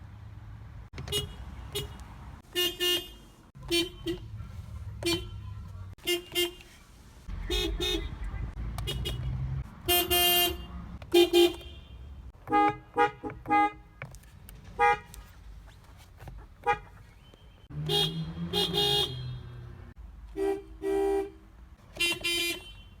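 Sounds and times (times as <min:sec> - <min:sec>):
car horn honking: 0:01.0 - 0:14.1, 0:14.8 - 0:15.2, 0:16.6 - 0:23.0.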